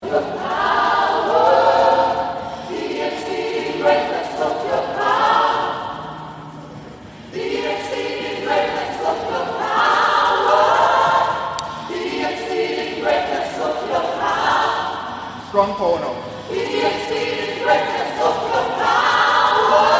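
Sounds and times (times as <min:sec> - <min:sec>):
church choir singing: 0:00.0 - 0:19.9.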